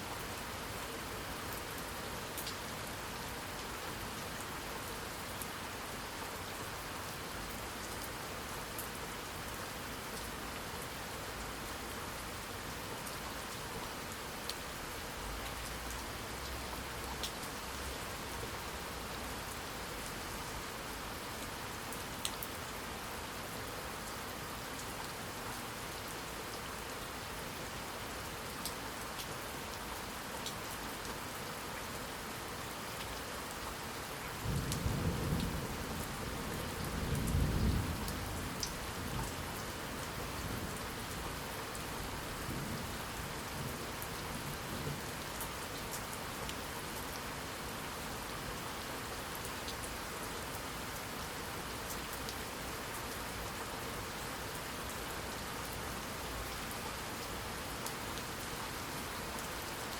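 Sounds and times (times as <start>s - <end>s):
rain pattering: 0.1s - 59.9s.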